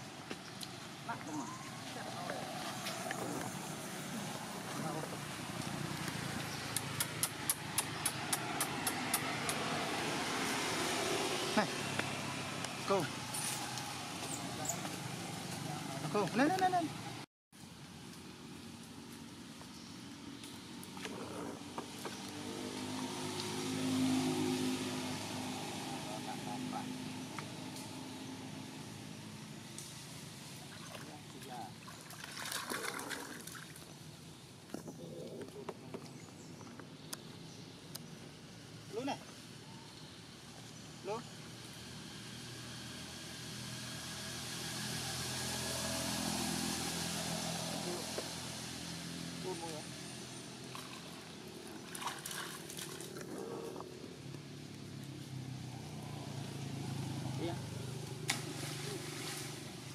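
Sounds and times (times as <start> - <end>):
vehicle engine passing by: 1.0 - 17.2, 19.8 - 33.7, 40.4 - 59.9.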